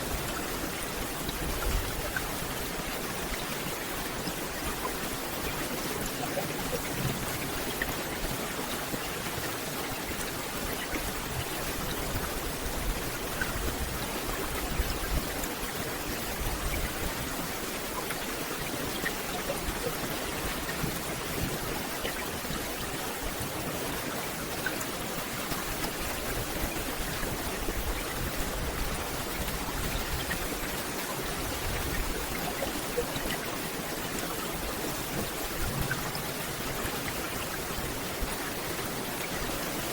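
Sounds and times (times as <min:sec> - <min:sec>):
rain falling on forest canopy: 0:00.0 - 0:39.9.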